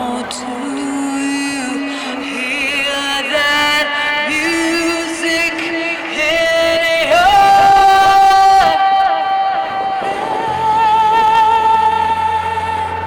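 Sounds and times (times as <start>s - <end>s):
singer holding long notes: 0.0s - 13.0s.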